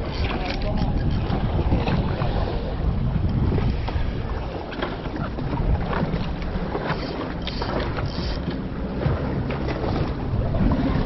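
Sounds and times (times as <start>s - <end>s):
fishing boat engine rumble: 0.0s - 11.0s
wind buffeting microphone: 0.0s - 11.0s.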